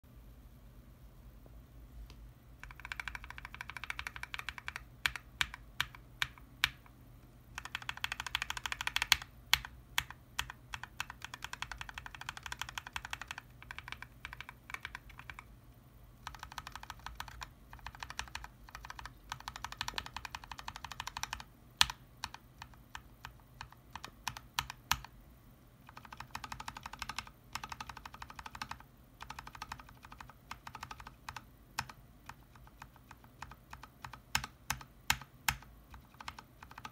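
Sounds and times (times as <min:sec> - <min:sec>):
mechanical keyboard clacking: 0:02.6 - 0:06.9, 0:07.6 - 0:15.5, 0:16.2 - 0:25.1, 0:25.8 - 0:36.9.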